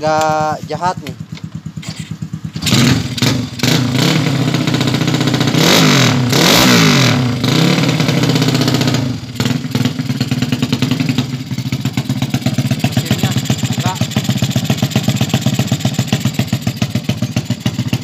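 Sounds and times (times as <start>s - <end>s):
single-cylinder engine revving: 1.1s - 18.0s.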